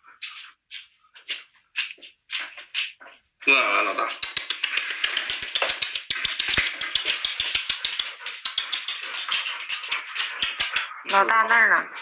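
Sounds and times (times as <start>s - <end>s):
dog claws clicking on wooden floor: 0.2s - 3.3s, 4.1s - 12.0s.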